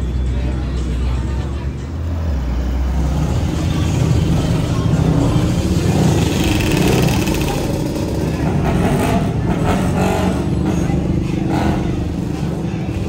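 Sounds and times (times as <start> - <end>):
car and quad bike engines passing: 0.0 - 13.0.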